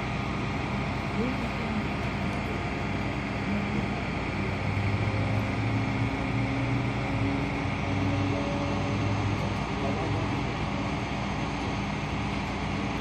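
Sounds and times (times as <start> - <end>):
outdoor street noise: 0.0 - 13.0
vehicle engine humming: 0.0 - 13.0.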